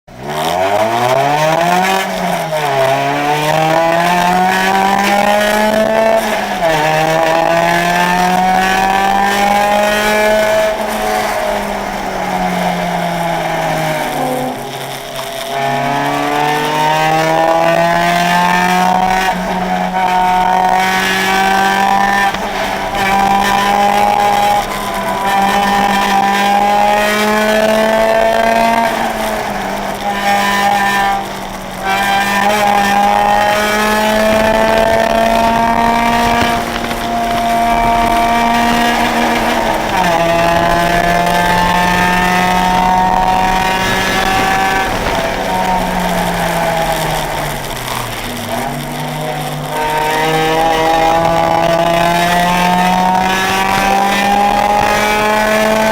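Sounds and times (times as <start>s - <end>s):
car engine revving: 0.1s - 55.9s.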